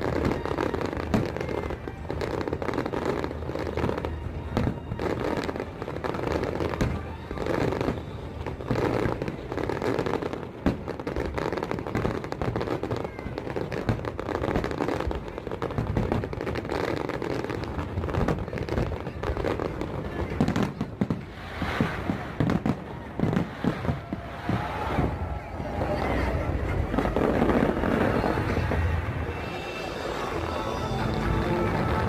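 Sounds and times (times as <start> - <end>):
crowd voices: 0.0 - 32.0
fireworks popping and banging: 0.0 - 32.0.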